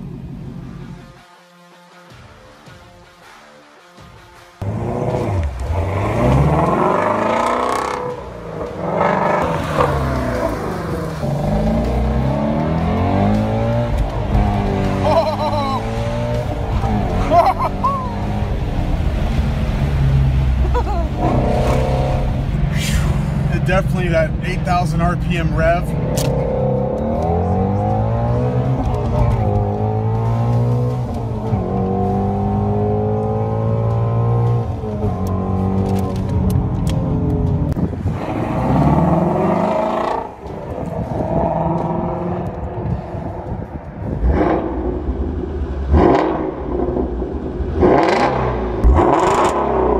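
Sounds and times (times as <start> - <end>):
car engine revving and accelerating: 4.6 - 49.9.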